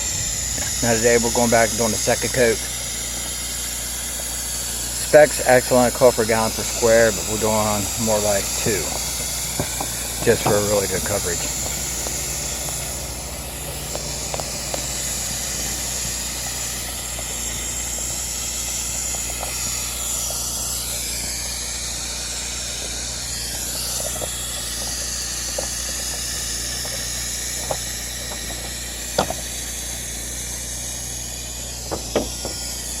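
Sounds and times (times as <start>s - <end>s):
pump engine humming: 0.0s - 33.0s
spray gun hissing: 0.0s - 33.0s.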